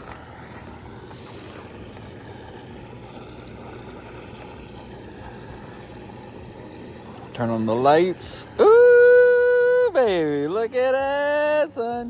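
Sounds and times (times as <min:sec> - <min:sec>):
constant hiss: 0:00.0 - 0:12.0
pump humming: 0:00.0 - 0:12.0.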